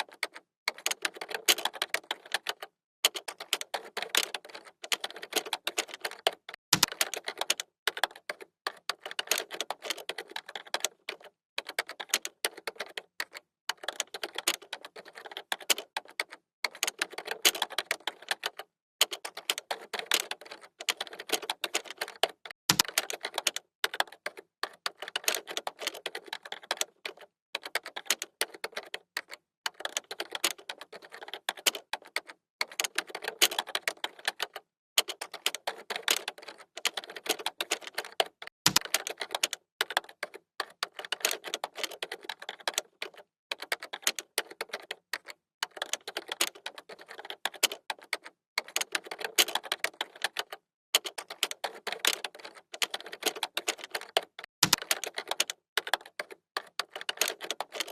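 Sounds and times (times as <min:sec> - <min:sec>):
fast typing on computer keyboard: 0:00.0 - 0:57.9.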